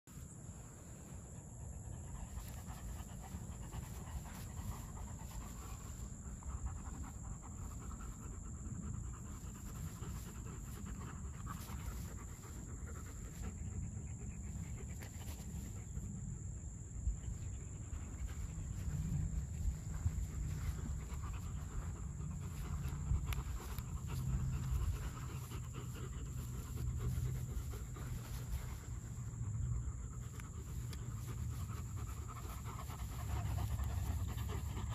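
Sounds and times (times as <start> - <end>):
dogs panting hard: 1.4 - 34.9.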